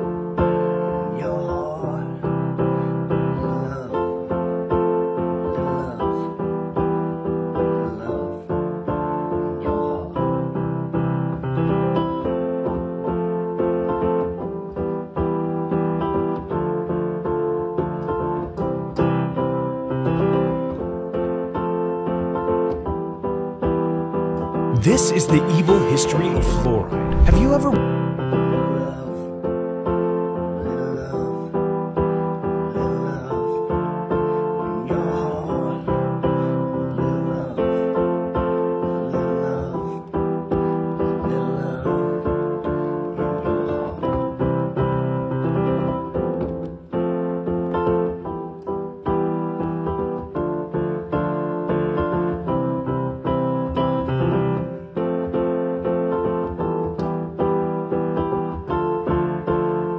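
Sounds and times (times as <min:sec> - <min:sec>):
piano chords: 0:00.0 - 0:59.9.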